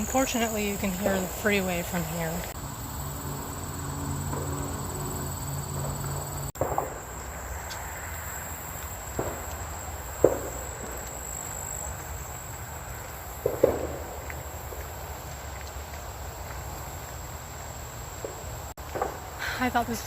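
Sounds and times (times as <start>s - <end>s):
footsteps on trail: 0.0s - 2.6s, 5.6s - 19.8s
high insect drone: 0.0s - 19.7s
distant freeway traffic rumble: 0.0s - 20.0s.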